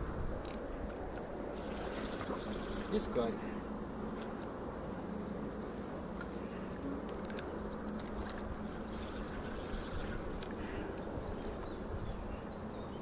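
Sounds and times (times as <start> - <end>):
faint steady hum: 0.0 - 13.0
high insect drone: 0.0 - 13.0.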